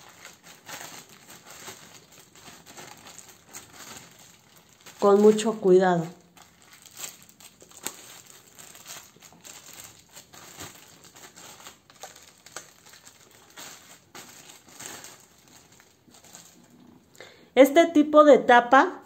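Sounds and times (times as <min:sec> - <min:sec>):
plastic bag crinkling: 0:00.0 - 0:17.2.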